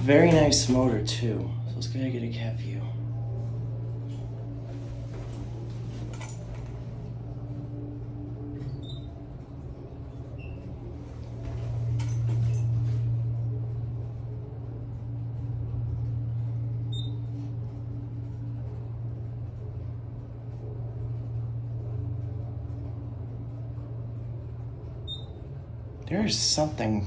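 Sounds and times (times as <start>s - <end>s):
elevator low hum: 0.0s - 27.0s.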